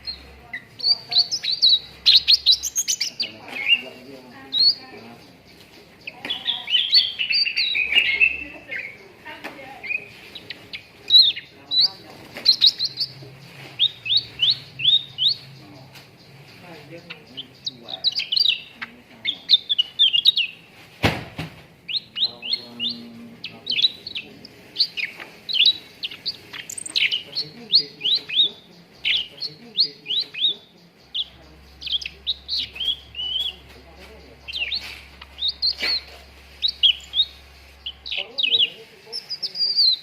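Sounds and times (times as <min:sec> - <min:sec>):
bird chirping rapidly: 0:00.0 - 0:20.8, 0:21.8 - 0:40.0.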